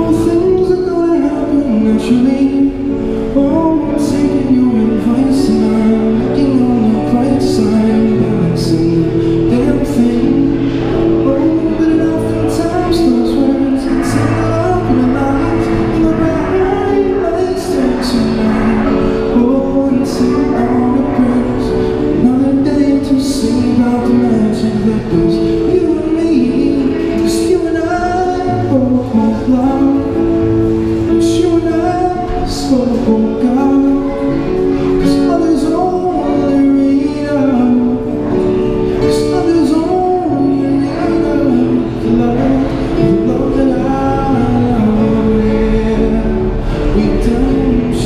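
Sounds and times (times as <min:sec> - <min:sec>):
acoustic guitar strumming: 0:00.0 - 0:48.0
man singing into a microphone: 0:00.0 - 0:48.0.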